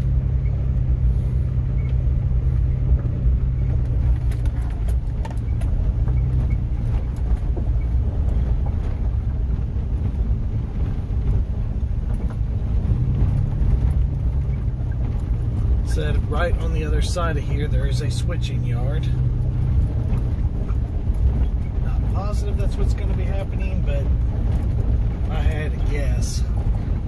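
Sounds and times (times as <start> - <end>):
car engine hum from inside: 0.0 - 27.0.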